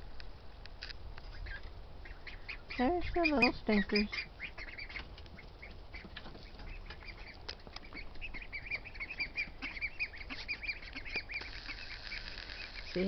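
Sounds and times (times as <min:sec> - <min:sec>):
ducklings peeping: 0:01.2 - 0:13.0.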